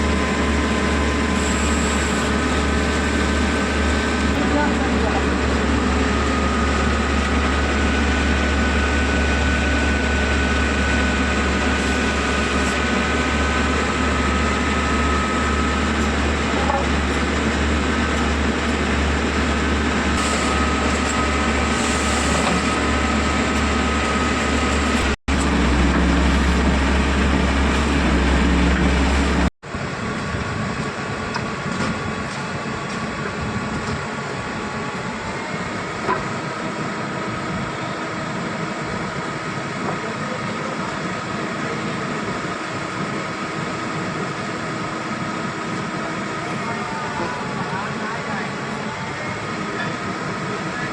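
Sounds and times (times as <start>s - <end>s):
heavy machinery engine hum: 0.0s - 50.9s.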